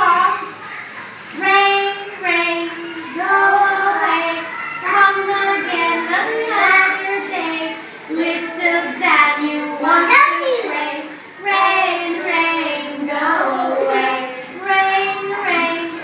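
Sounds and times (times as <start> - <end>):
children's song in high voices: 0.0 - 16.0.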